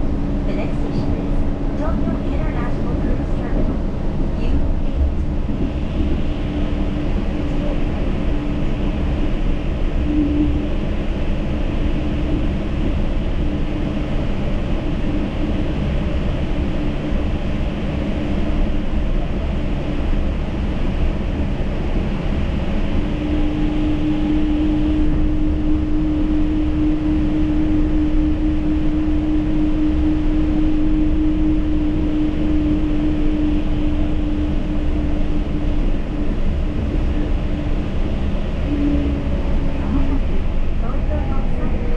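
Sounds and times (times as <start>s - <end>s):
steady train hum: 0.0s - 41.9s
train tyres rumbling: 0.0s - 41.9s.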